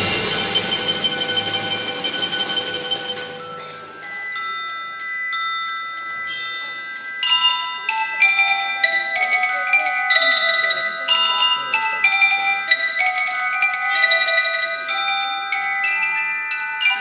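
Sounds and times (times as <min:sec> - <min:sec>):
mallet percussion melody: 0:00.0 - 0:17.0.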